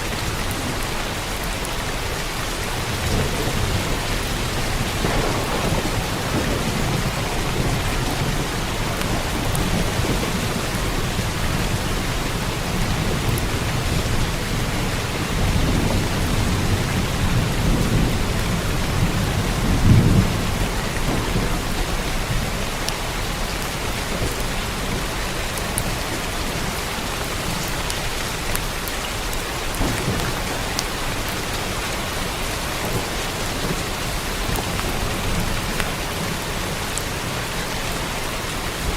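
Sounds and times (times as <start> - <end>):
heavy rain: 0.0 - 38.9
thunder rumbling: 2.7 - 38.9.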